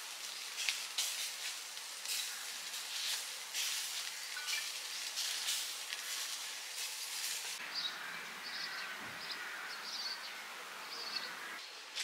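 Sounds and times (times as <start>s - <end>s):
soft high rustling hiss: 0.0s - 12.0s.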